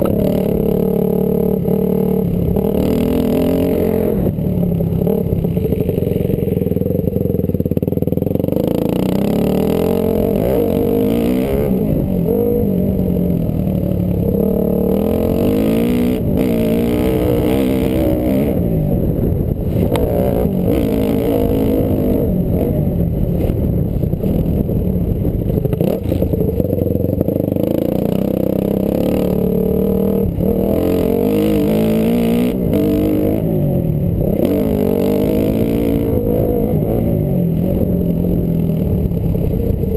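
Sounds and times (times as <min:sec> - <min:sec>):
motocross engine revving: 0:00.0 - 0:23.2, 0:25.5 - 0:39.9.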